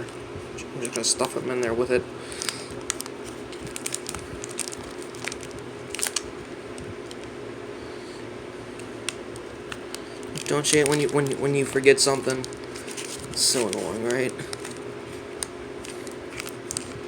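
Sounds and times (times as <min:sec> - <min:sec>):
foil pack crinkling: 0:00.0 - 0:07.3, 0:09.0 - 0:17.0
steady low hum: 0:00.0 - 0:17.0.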